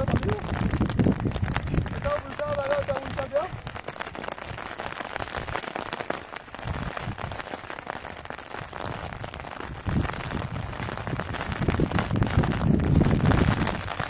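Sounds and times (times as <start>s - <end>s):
wind rumble on microphone: 0.0s - 5.6s, 6.6s - 7.5s, 8.2s - 14.0s
rain falling: 0.0s - 14.0s.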